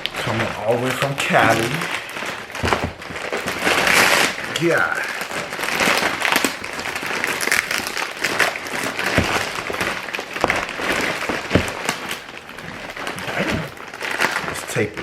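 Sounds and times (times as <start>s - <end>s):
packaging rustling: 0.0s - 15.0s
packing tape ripping off cardboard: 0.0s - 15.0s.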